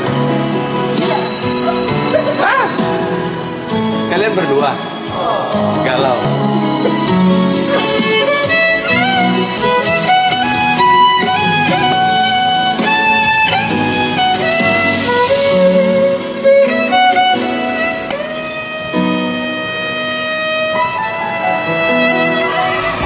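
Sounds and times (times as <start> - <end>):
violin playing slow melody: 0.0 - 23.0.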